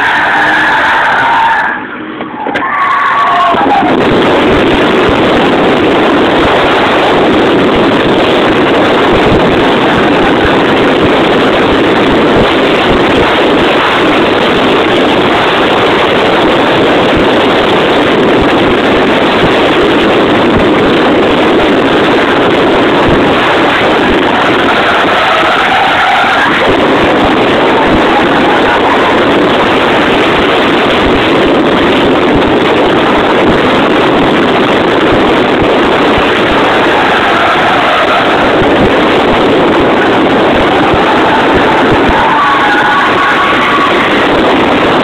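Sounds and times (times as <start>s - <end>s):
car engine distorted drone: 0.0s - 45.0s.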